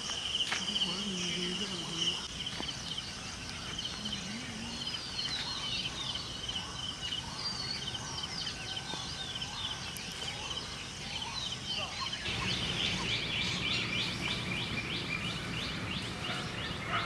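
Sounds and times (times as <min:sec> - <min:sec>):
birds chirping: 0:00.0 - 0:17.0
insects chirring: 0:00.0 - 0:17.0.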